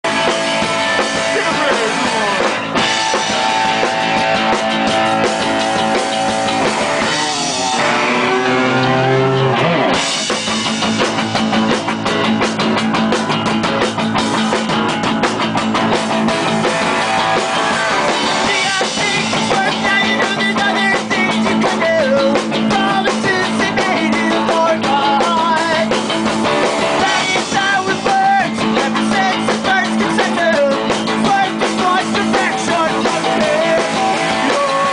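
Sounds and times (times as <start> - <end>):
live rock band: 0.0 - 34.9
sliding guitar pitches: 0.1 - 34.9.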